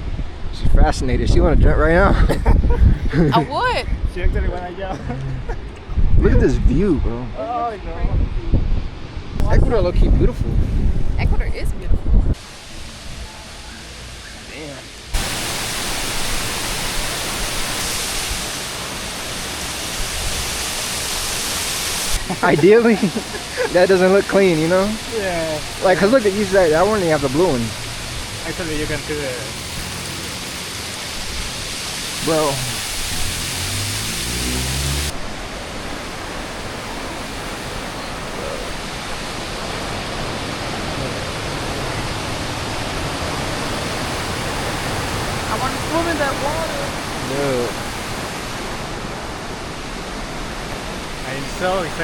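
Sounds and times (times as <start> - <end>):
waterfall roaring: 1.8 - 7.8, 11.4 - 52.0.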